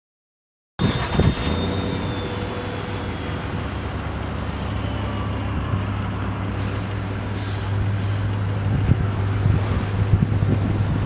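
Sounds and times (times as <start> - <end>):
engine low rumble: 0.8 - 11.0.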